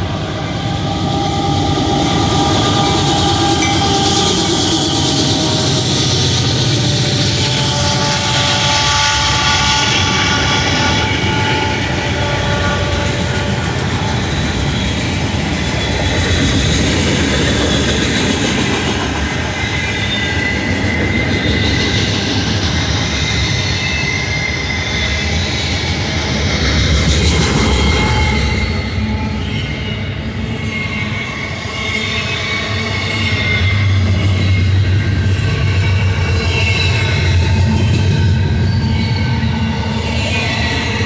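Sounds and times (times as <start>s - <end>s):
squealing train wheels: 0.0s - 41.0s
train wheels rumbling on rail: 0.0s - 41.0s.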